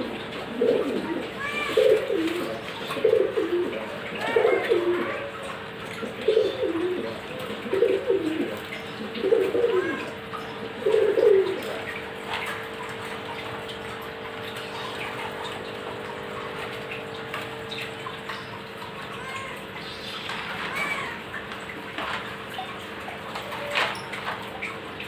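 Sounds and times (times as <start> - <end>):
bird cooing: 0.0 - 24.9.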